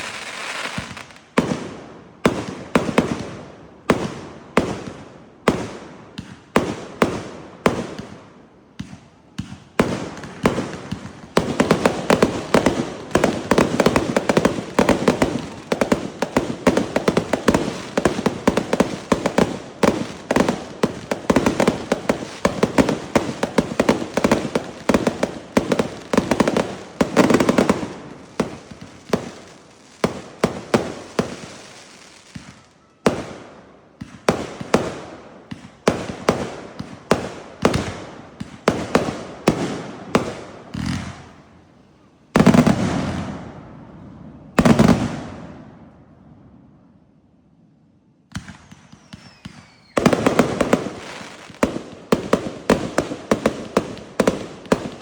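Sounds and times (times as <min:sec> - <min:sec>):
fireworks cracking and banging: 0:00.0 - 0:41.4, 0:42.3 - 0:43.6, 0:44.5 - 0:45.6, 0:48.3 - 0:55.0.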